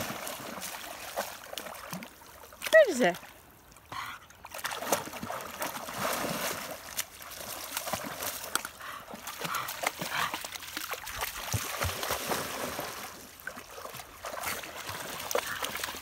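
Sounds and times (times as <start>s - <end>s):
dog splashing through water: 0.0s - 3.3s, 4.0s - 16.0s.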